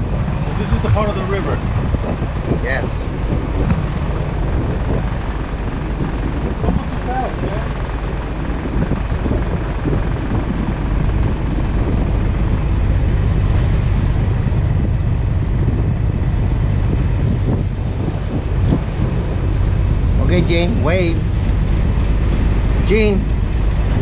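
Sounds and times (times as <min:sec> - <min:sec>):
boat engine rumbling: 0:00.0 - 0:24.0
water rushing along hull: 0:00.0 - 0:24.0
wind on microphone: 0:00.0 - 0:24.0.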